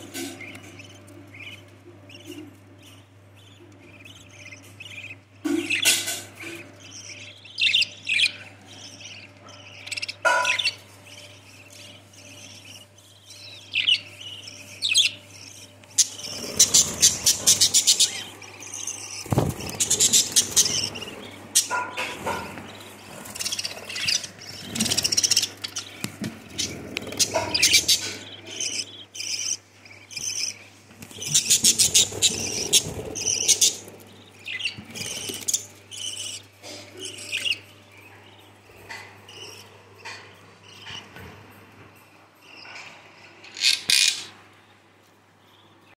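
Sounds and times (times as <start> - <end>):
budgerigars chirping and chattering: 0.0 - 44.6.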